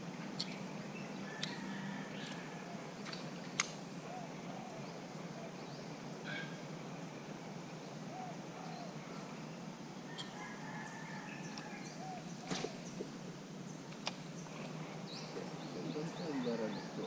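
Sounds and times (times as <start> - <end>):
faint bird calls and chirps: 0.2 - 17.0.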